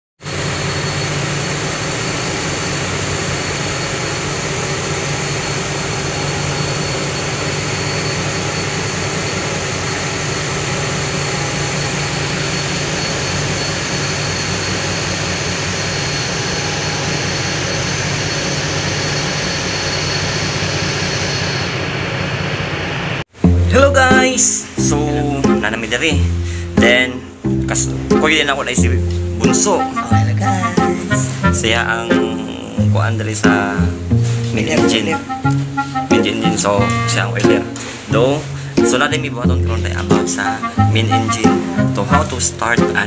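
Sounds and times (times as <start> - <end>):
ship engine drone: 0.2 - 43.0.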